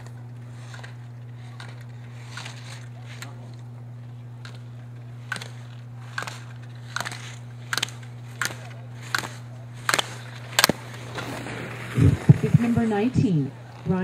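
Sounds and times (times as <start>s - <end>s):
skis hitting gate poles: 0.0s - 14.0s
steady low hum: 0.0s - 14.0s.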